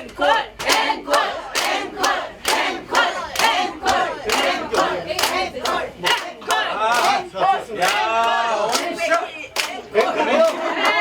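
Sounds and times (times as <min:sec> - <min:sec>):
group chanting and shouting: 0:00.0 - 0:11.0
rhythmic hand claps: 0:00.0 - 0:11.0.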